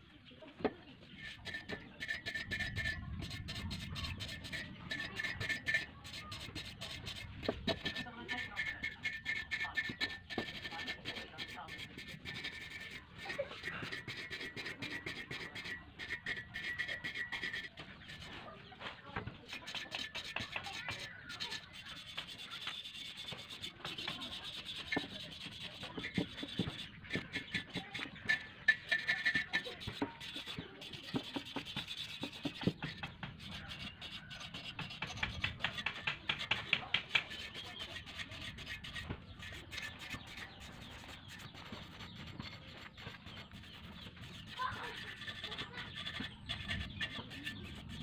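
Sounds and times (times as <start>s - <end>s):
wire brush scrubbing metal: 1.0s - 48.0s.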